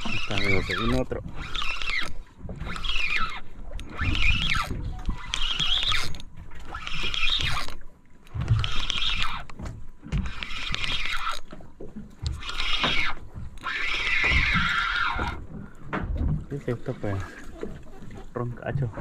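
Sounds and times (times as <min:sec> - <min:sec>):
fishing reel gears whirring: 0:00.0 - 0:15.6
low rumble of wind and water: 0:00.0 - 0:19.0.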